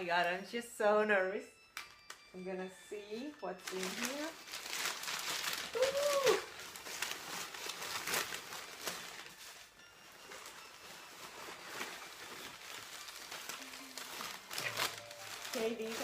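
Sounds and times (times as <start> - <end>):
paper and bubble wrap crinkling: 1.8 - 16.0.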